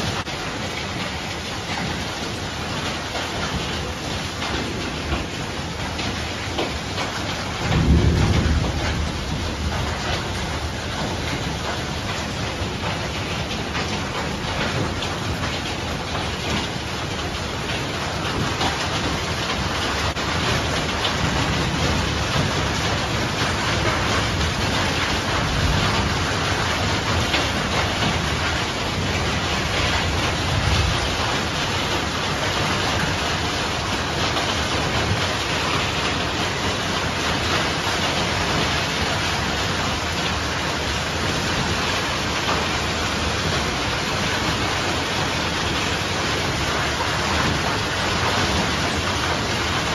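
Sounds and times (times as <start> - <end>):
heavy rain and hail: 0.0 - 49.9
thunder rumbling: 4.4 - 49.9.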